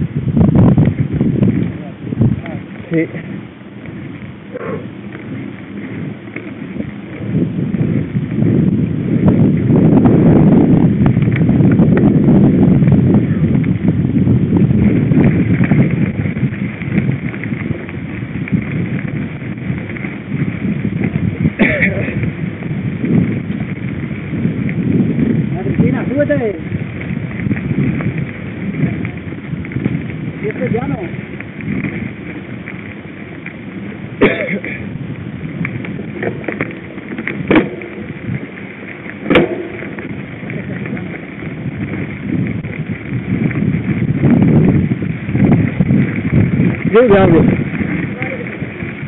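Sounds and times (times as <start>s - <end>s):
bike rattling and knocking: 0.0s - 49.0s
wind on microphone: 0.0s - 49.0s.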